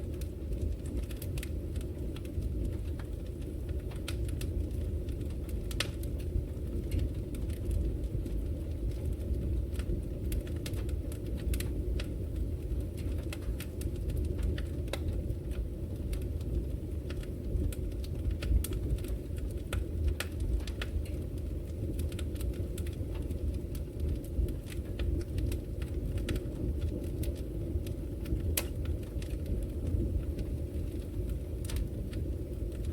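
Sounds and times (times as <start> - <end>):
fire crackling in a fireplace: 0.0 - 32.9.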